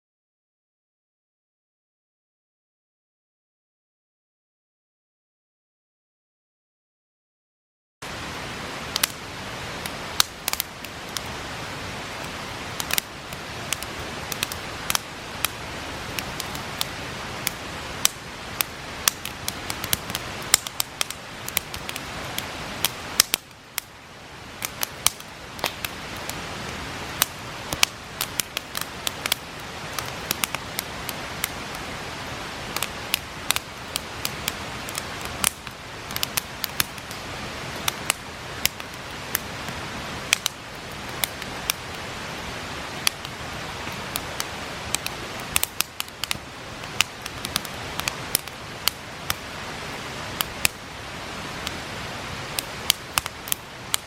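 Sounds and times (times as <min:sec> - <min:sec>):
campfire crackling and popping: 0:08.0 - 0:54.0
river rushing: 0:08.0 - 0:54.0.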